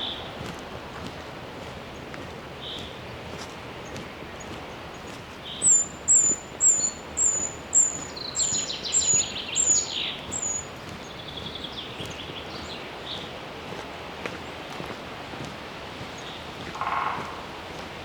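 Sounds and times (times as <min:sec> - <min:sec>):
forest background hiss: 0:00.0 - 0:18.0
songbird singing: 0:00.0 - 0:18.0.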